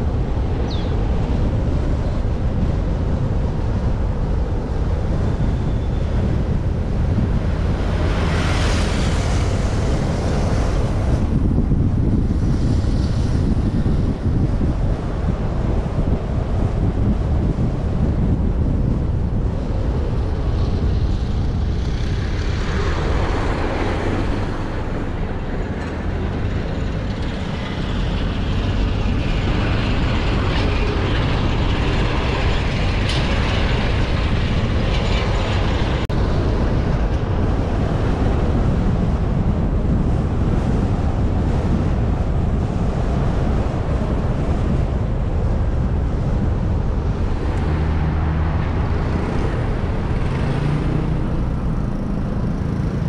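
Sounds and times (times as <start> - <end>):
car engine and road rumble: 0.0 - 53.0
tyre and wind hiss: 0.0 - 53.0.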